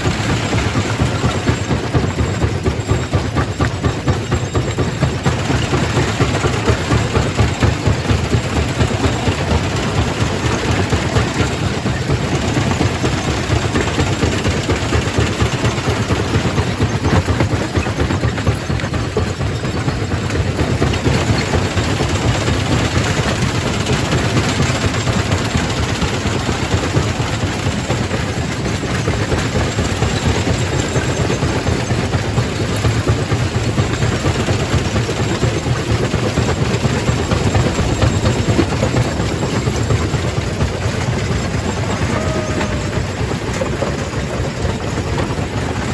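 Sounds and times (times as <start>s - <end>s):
rock crusher rumbling: 0.0s - 45.9s.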